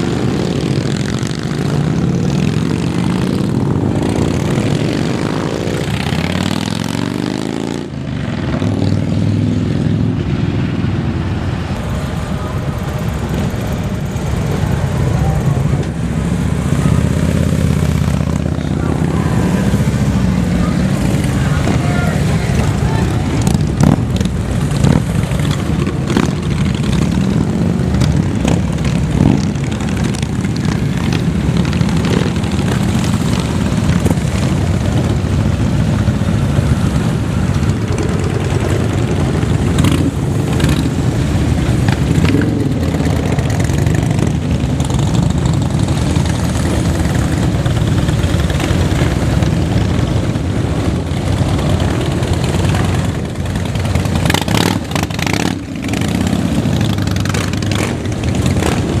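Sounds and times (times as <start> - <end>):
motorcycle engines rumbling: 0.0 - 59.0.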